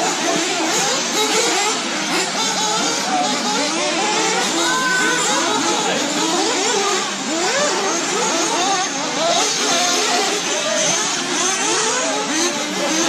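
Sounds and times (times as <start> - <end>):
rc car motors revving: 0.0 - 13.0.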